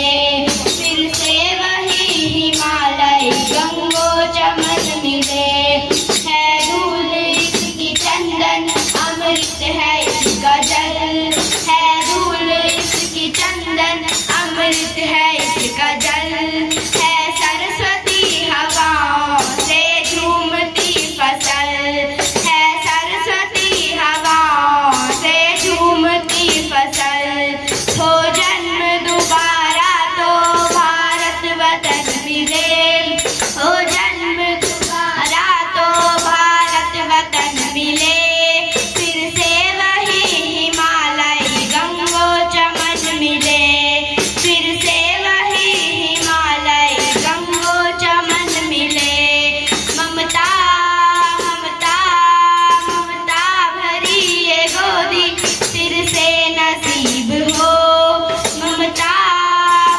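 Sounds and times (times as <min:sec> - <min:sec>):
girls singing together: 0:00.0 - 0:59.9
tambourine shaken to a beat: 0:00.0 - 0:59.9.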